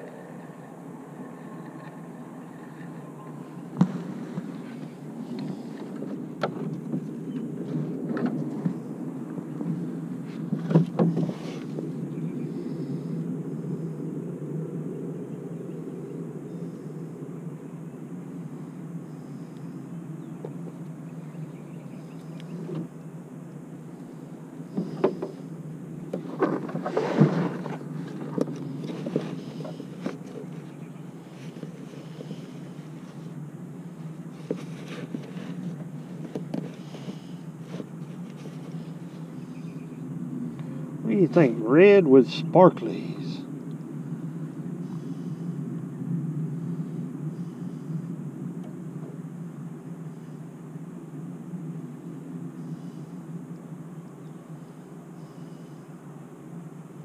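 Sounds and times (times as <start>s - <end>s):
low steady rumble: 0.0s - 57.0s.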